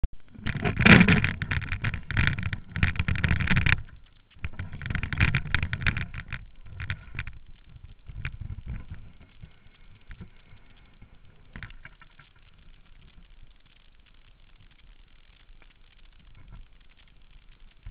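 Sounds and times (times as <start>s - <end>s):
rumbling and crackling on microphone: 0.0s - 17.9s
faint hiss: 2.0s - 17.9s.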